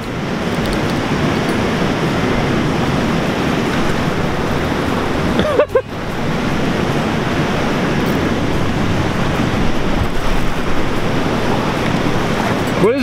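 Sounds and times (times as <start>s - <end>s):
fast river water rushing: 0.0s - 13.0s.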